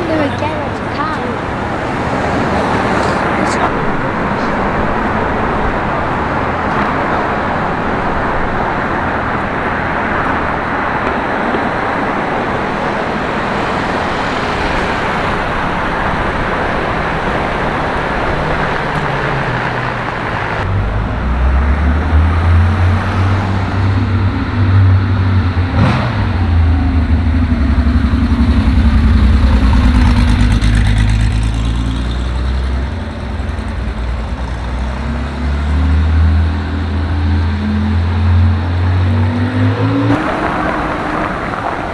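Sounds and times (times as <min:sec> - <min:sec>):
road traffic passing: 0:00.0 - 0:41.9
vehicle engine droning: 0:00.0 - 0:41.9.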